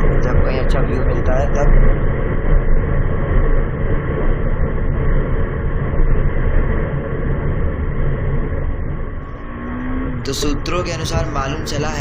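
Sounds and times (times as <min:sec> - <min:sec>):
motorcycle engine rumble: 0:00.0 - 0:12.0
wind noise on microphone: 0:00.0 - 0:12.0.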